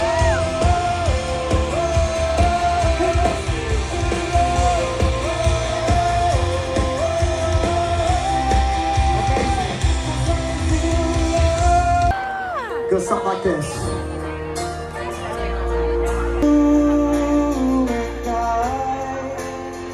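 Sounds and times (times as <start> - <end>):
live rock band playing: 0.0 - 19.9.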